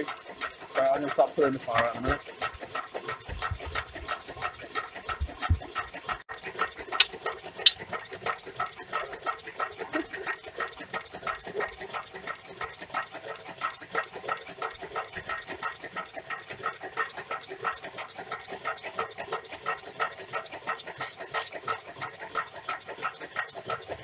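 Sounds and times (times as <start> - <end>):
stirling engine rhythmic beat: 0.0 - 24.0.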